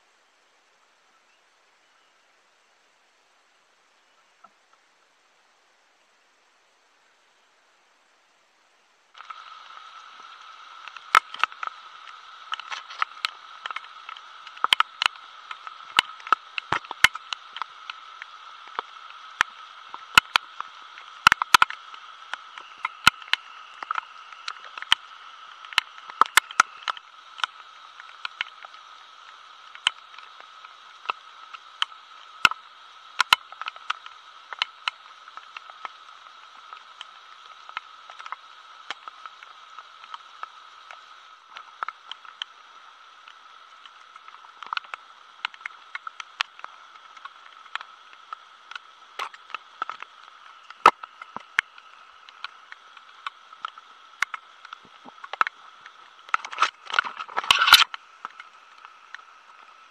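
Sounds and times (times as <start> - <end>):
rain hiss: 0.0 - 59.9
raindrops ticking on leaves: 6.4 - 59.9.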